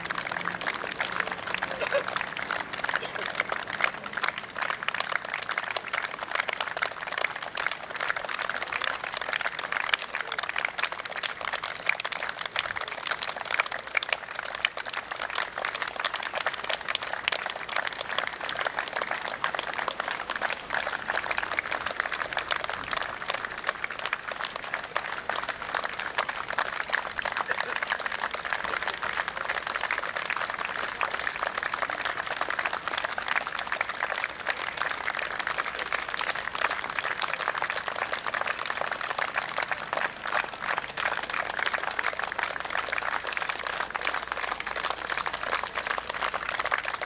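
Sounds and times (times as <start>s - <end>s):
crowd applauding: 0.0s - 47.0s.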